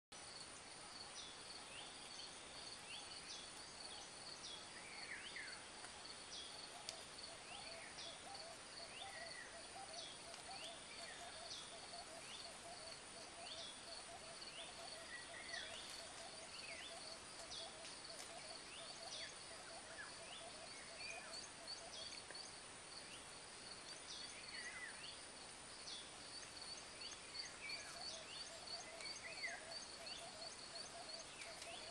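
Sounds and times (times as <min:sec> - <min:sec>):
high insect trill: 0:00.2 - 0:31.9.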